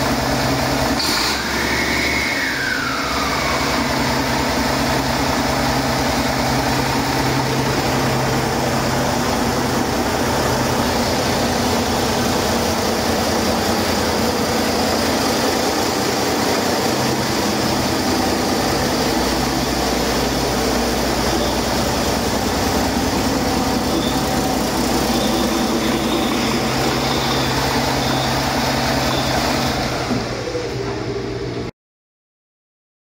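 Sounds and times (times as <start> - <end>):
diesel truck engine running: 0.0 - 31.7.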